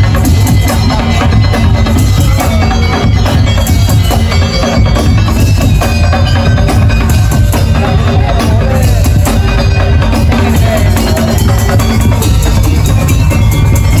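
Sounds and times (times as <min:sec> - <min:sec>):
deep bass drums: 0:00.0 - 0:14.0
hand drums: 0:00.0 - 0:14.0
pitched melody line: 0:00.0 - 0:14.0
woodblock-like strikes: 0:00.0 - 0:14.0.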